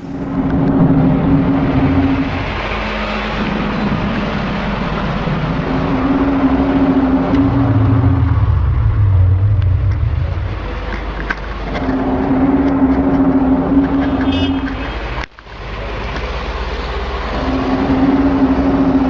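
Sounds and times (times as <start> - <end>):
droning sky tone: 0.0 - 15.3, 16.8 - 19.0
low rumble: 0.0 - 15.3, 16.9 - 19.0.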